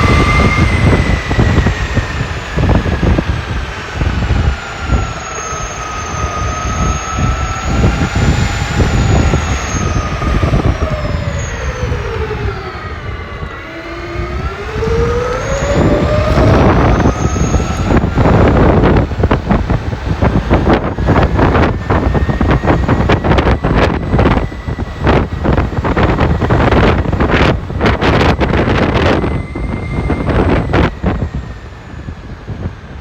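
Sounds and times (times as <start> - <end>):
electric motor whine: 0.0 - 33.0
loud gusting rushing noise: 0.0 - 33.0.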